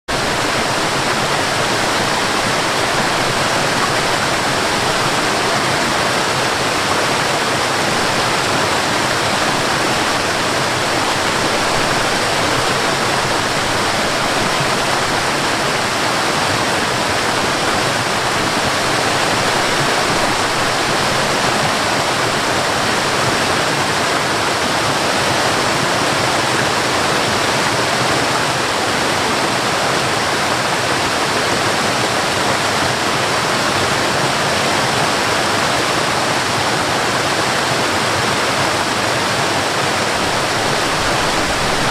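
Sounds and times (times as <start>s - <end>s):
water rushing: 0.1s - 41.9s.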